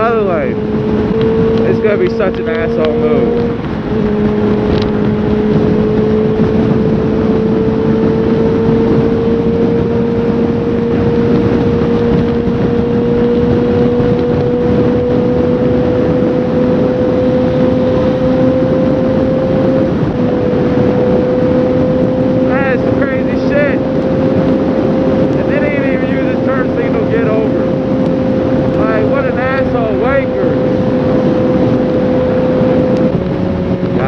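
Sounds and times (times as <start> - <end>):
motorcycle engine accelerating: 0.0 - 34.0
wind and road rush: 0.0 - 34.0.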